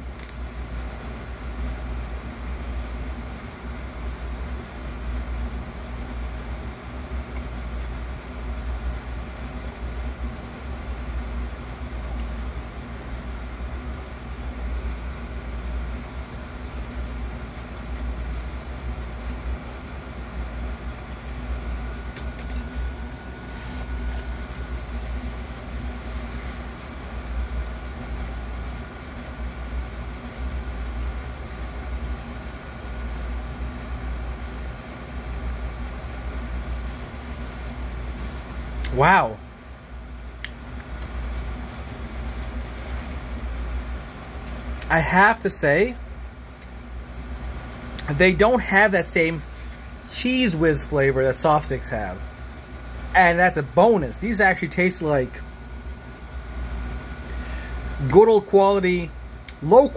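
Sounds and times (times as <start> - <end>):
faint hum: 0.0 - 59.9
low machine rumble: 0.0 - 59.9.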